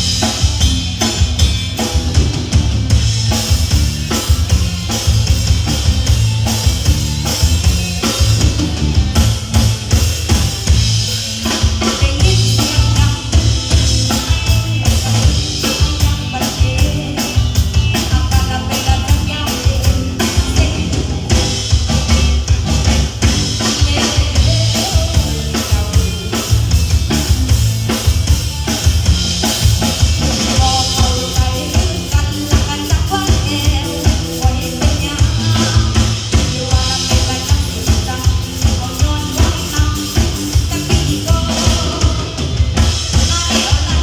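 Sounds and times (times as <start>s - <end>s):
band playing music: 0.0s - 44.0s
bass line: 0.0s - 44.0s
drum kit beat: 0.0s - 44.0s.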